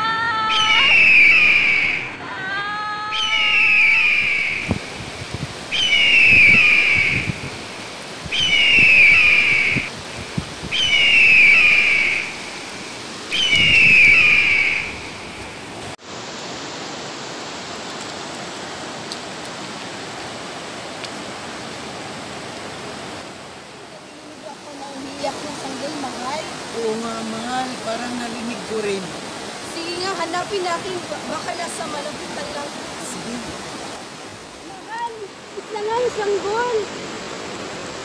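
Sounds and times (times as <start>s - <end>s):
river running over stones: 3.4s - 38.0s.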